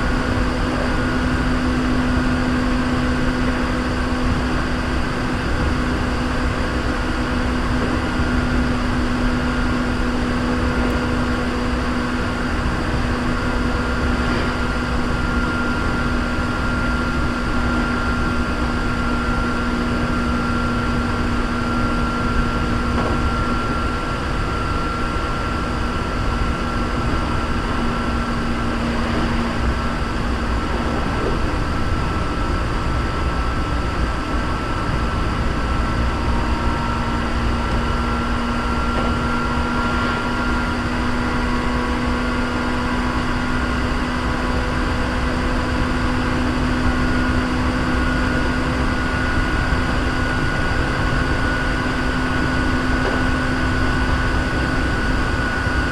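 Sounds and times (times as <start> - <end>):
steady whine: 0.0 - 55.9
train wheels rumbling on rails: 0.0 - 55.9.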